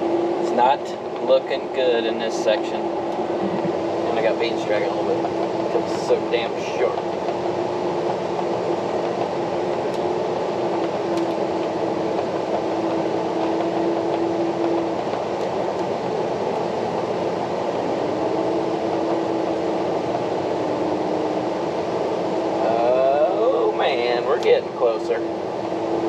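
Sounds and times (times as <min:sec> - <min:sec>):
combine harvester drone: 0:00.0 - 0:26.0.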